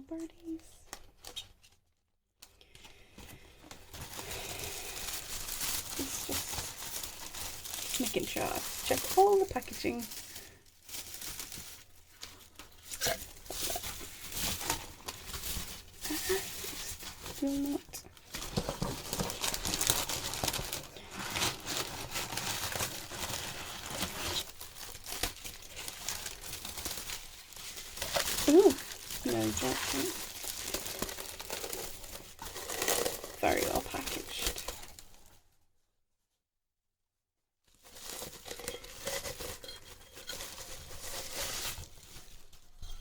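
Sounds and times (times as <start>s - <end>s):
paper packaging crumpled and torn: 3.6s - 35.4s, 37.7s - 43.0s.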